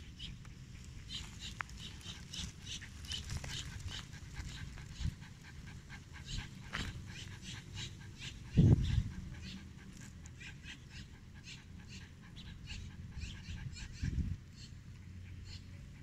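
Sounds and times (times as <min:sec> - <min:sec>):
dog panting: 0:01.2 - 0:14.2.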